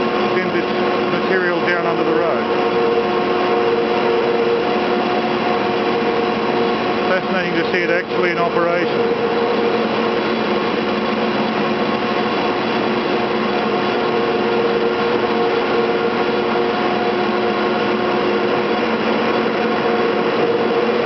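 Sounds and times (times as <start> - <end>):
cable winding machinery whirring: 0.0 - 21.0.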